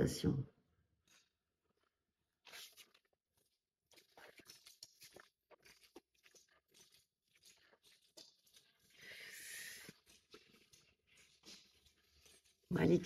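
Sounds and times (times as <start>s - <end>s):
faint crackling and rustling: 1.0s - 13.0s.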